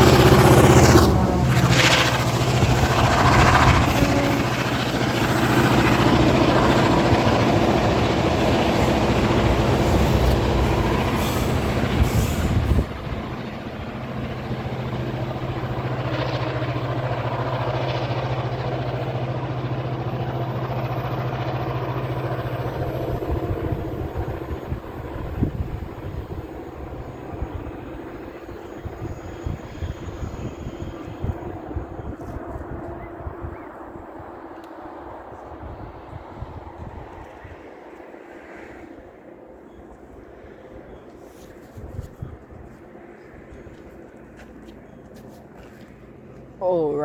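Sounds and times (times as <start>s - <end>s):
diesel locomotive engine hum: 0.0s - 47.0s
rolling train noise: 0.0s - 47.0s.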